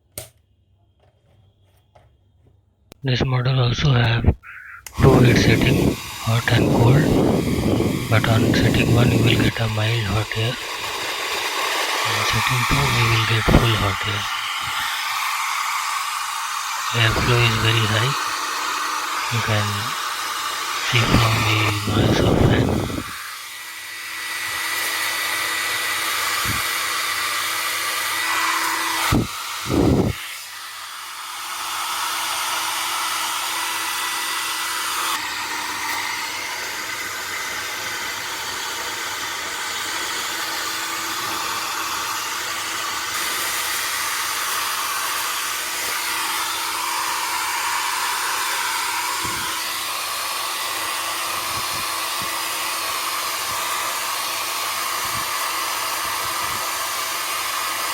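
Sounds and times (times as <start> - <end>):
hair dryer running: 4.9 - 57.9.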